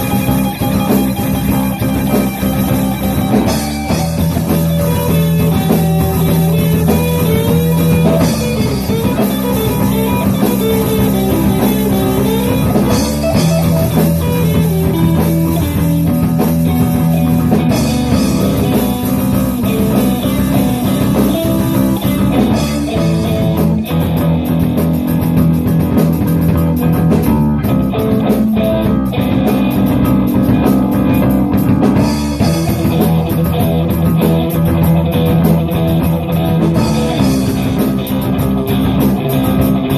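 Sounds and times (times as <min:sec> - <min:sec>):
drums: 0:00.0 - 0:39.9
rock guitar: 0:00.0 - 0:39.9.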